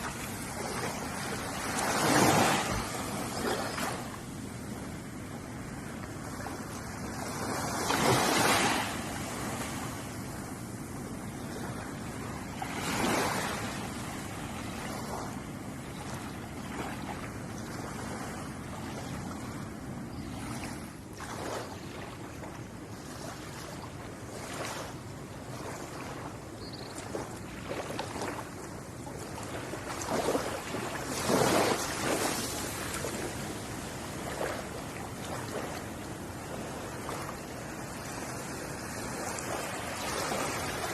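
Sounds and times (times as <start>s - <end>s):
ocean waves washing onto beach: 0.0s - 40.9s.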